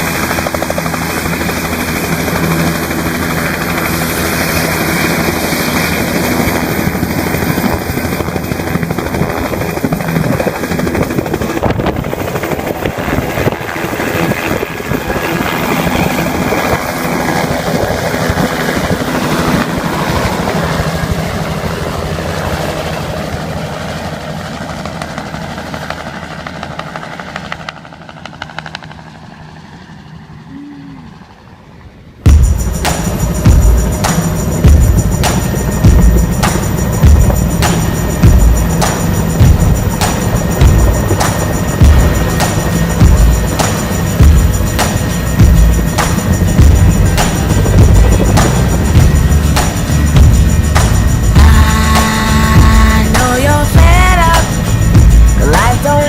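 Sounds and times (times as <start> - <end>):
helicopter rotor and engine roar: 0.0 - 56.0.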